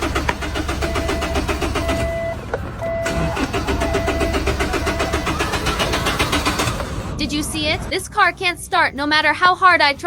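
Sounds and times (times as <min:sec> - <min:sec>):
car engine cranking: 0:00.0 - 0:10.0.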